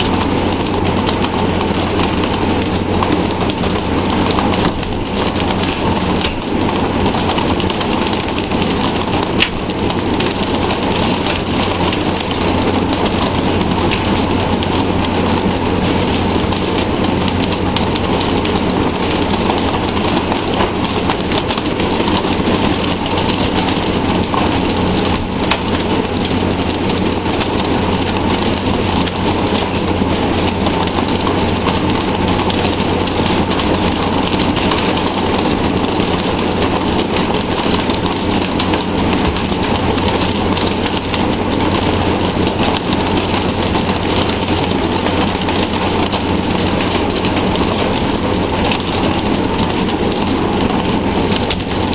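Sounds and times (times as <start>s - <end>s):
boat engine hum: 0.0s - 51.9s.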